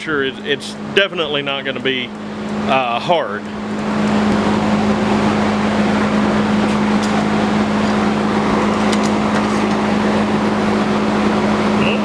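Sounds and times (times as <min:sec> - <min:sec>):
forge humming and rushing: 0:00.0 - 0:12.0.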